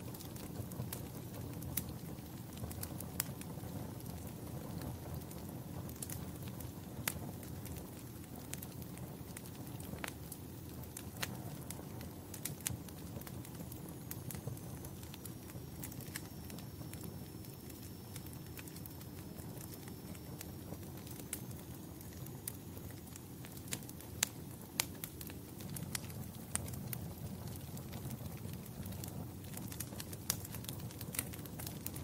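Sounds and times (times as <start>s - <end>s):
low rumble of flames: 0.0s - 32.0s
wood fire crackling and popping: 0.0s - 32.0s.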